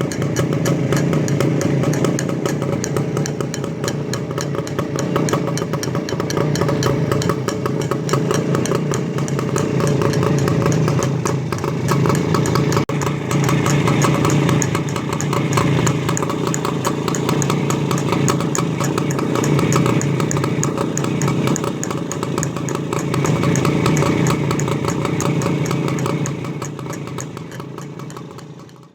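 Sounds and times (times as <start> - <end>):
two-stroke motorcycle engine idling: 0.0 - 28.9.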